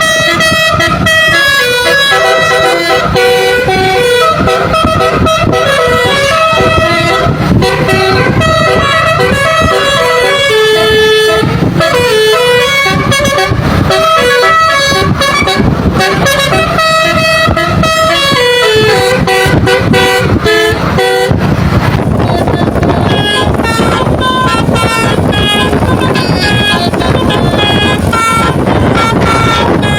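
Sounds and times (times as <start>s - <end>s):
engine and road noise: 0.0s - 29.9s
musical truck horn melody: 0.0s - 29.9s.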